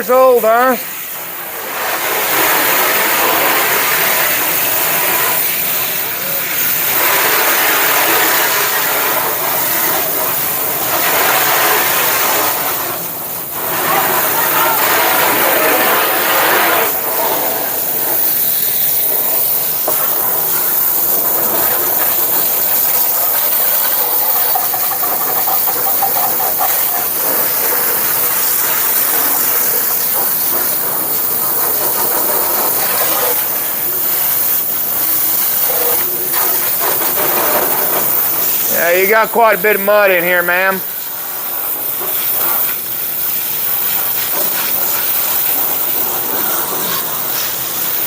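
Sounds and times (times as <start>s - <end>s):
water spraying from a hose: 0.0s - 48.0s.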